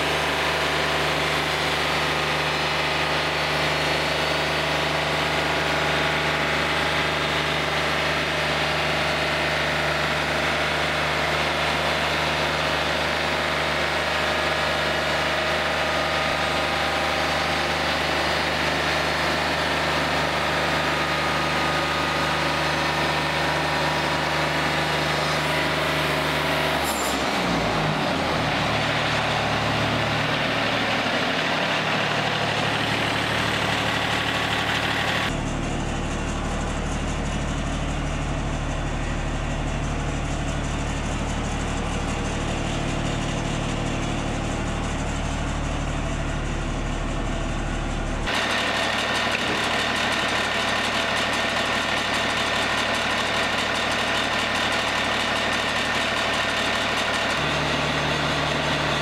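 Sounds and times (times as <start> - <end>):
sawmill engine idling: 0.0 - 59.0.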